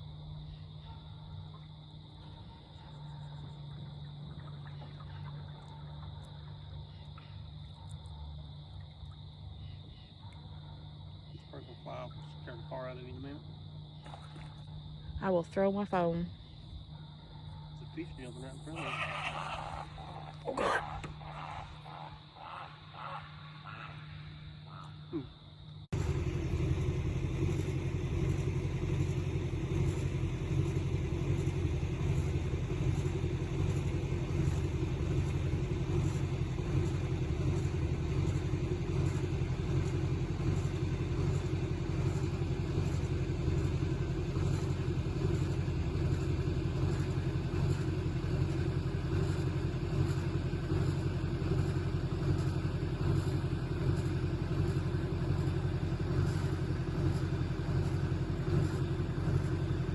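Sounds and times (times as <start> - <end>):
small engine running steadily: 0.0 - 59.9.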